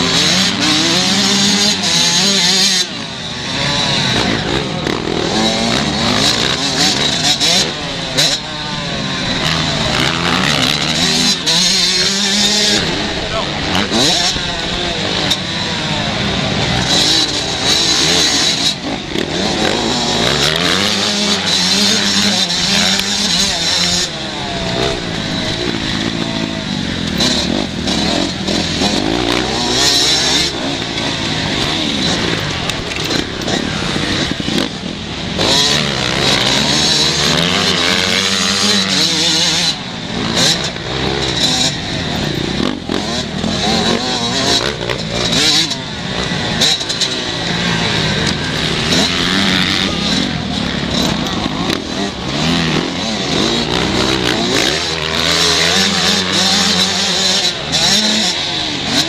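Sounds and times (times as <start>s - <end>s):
motocross bikes revving: 0.0s - 59.0s.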